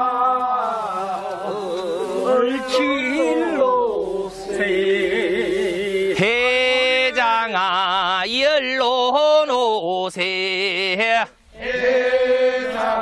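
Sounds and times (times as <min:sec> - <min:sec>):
men singing work song: 0:00.0 - 0:13.0.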